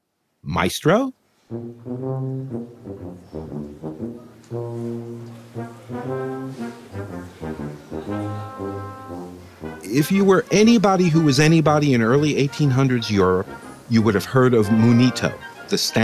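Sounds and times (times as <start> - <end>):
brass instrument melody: 1.4 - 16.0.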